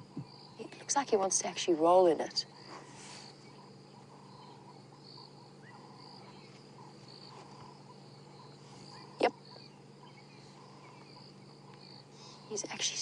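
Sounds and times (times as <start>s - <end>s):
crickets chirping: 0.0s - 13.0s
steady low hum: 0.0s - 13.0s.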